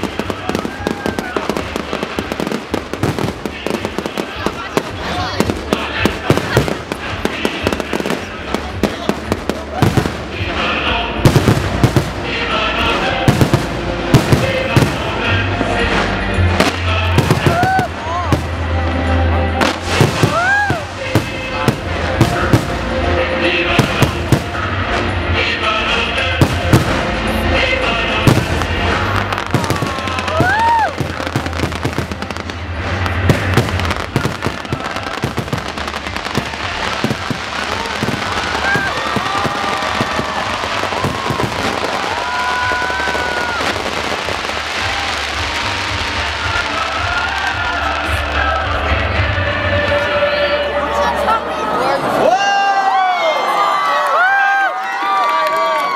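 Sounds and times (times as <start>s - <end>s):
fireworks bursting: 0.0s - 49.7s.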